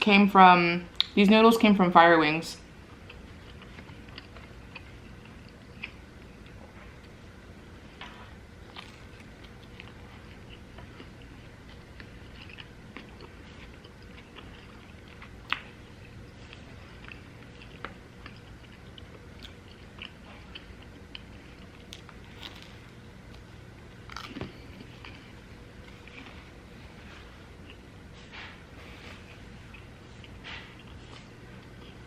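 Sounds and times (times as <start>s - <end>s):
person chewing food: 2.8s - 32.0s.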